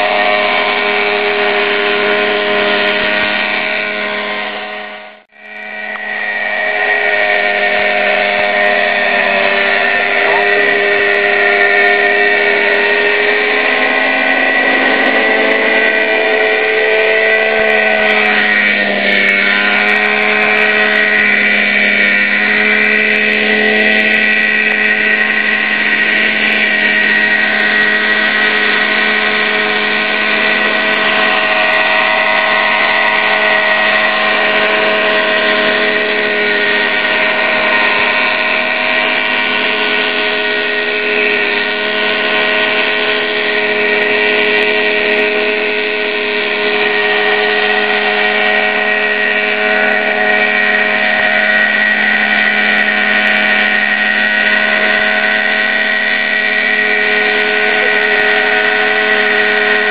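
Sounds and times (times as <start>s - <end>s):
model helicopter whine: 0.0s - 59.9s.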